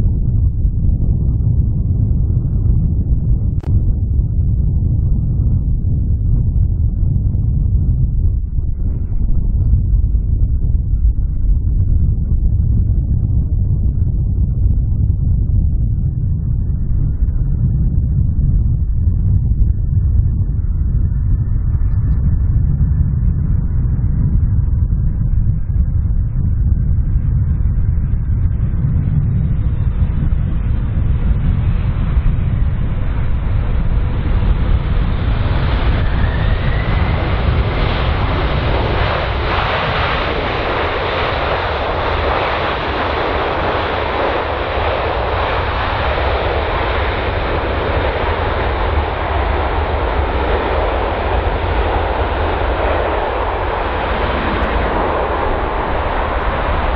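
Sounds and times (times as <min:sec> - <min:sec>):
faint rising whine: 0:00.0 - 0:56.9
jet engines of airliner: 0:00.0 - 0:56.9
steady low rumble: 0:00.0 - 0:56.9.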